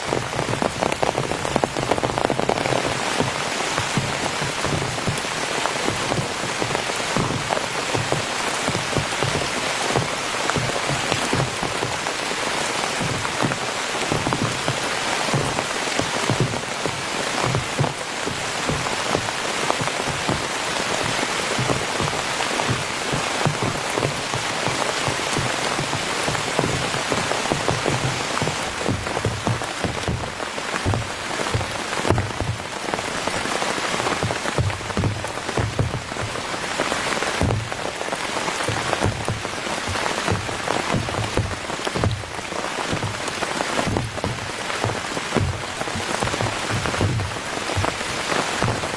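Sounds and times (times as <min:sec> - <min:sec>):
heavy rain on a tent: 0:00.0 - 0:48.9.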